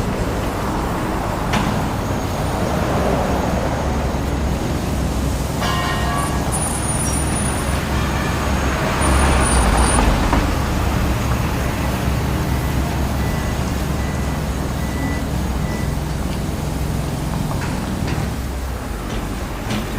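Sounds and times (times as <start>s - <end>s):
large engine rumbling: 0.0s - 19.9s.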